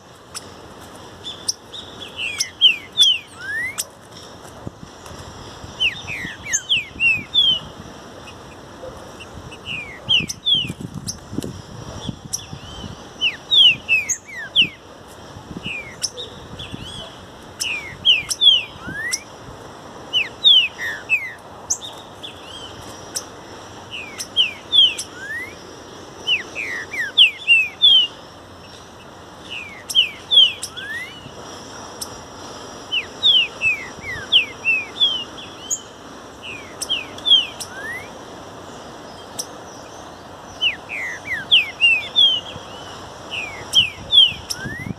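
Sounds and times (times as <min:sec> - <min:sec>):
bird singing whistled notes: 0:01.2 - 0:03.9, 0:05.7 - 0:08.6, 0:09.2 - 0:11.2, 0:12.0 - 0:14.8, 0:15.6 - 0:19.3, 0:20.1 - 0:23.3, 0:23.9 - 0:28.8, 0:29.4 - 0:31.4, 0:32.9 - 0:44.9.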